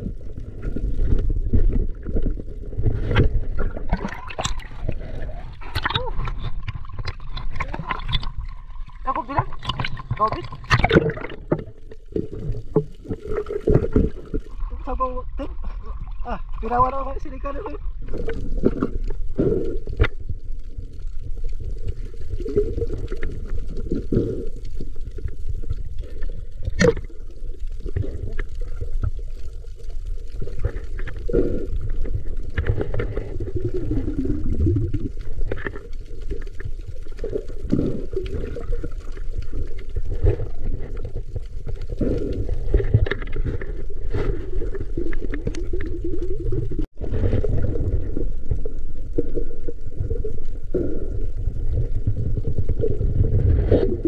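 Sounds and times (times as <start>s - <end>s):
bubbling and gurgling: 0.0s - 54.0s
underwater rumbling water noise: 0.0s - 54.0s.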